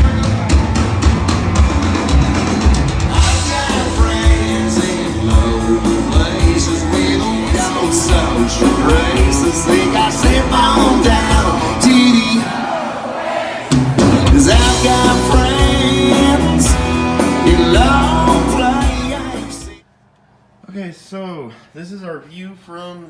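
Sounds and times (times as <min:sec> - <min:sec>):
rock song: 0:00.0 - 0:12.6, 0:13.7 - 0:19.8.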